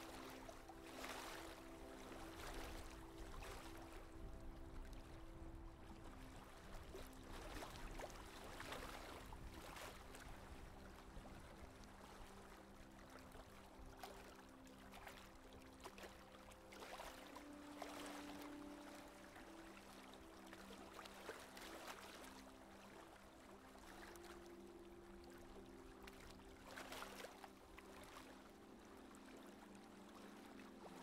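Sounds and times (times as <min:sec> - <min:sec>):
water washing along hull: 0:00.0 - 0:31.0.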